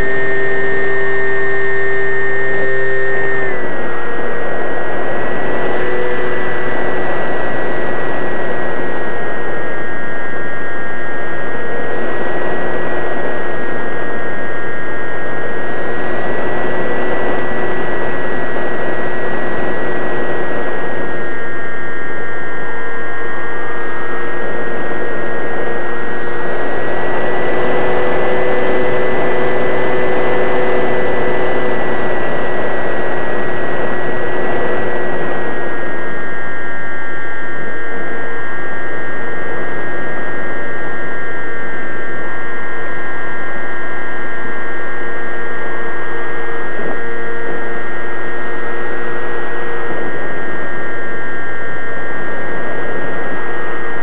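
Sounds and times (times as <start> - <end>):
model airplane motor whine: 0.0 - 54.0.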